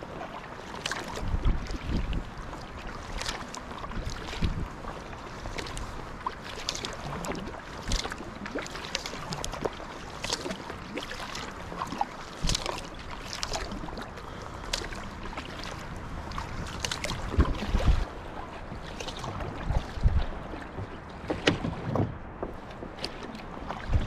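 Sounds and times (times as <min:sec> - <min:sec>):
kayak paddle splashing water: 0:00.0 - 0:24.0.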